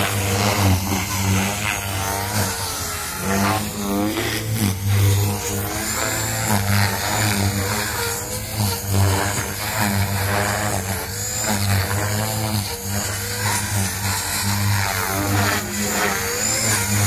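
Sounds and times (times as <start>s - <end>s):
electric motor whine: 0.0s - 17.0s
helicopter rotor drone: 0.0s - 17.0s.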